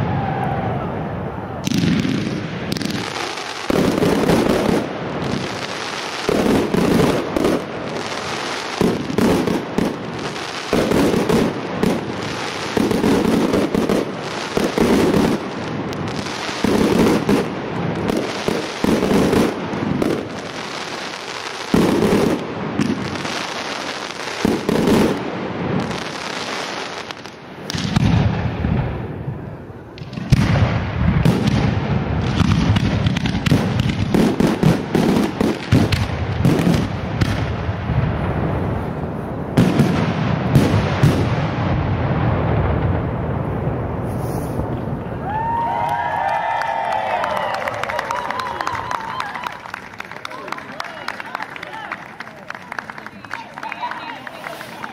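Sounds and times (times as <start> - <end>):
loud firework bangs: 0.0 - 50.6
firework crackle: 0.0 - 54.9.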